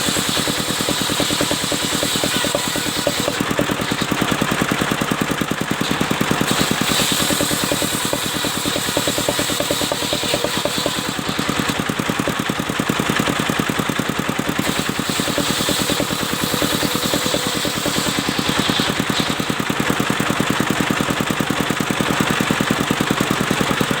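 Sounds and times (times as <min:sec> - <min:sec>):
sawmill engine chugging: 0:00.0 - 0:24.0.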